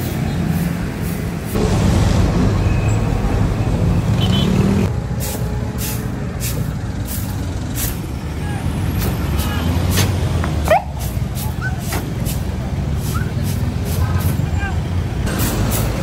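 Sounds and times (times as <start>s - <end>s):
heavy road traffic rumble: 0.0s - 16.0s.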